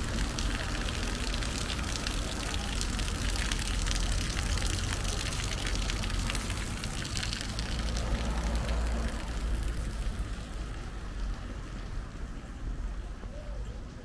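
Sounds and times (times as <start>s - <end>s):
fountain water splashing: 0.0s - 13.2s.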